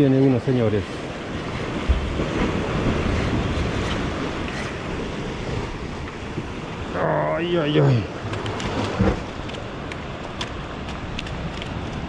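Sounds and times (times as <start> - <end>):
sea waves breaking on rocks: 0.0 - 12.0
wind rumbling on microphone: 0.8 - 12.0.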